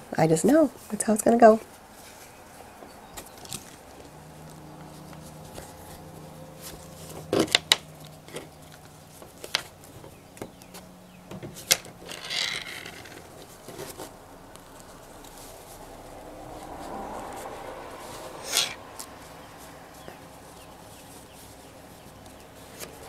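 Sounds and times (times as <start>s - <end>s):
faint steady hum: 0.0s - 23.0s
fabric rustling: 0.6s - 10.9s, 11.6s - 23.0s.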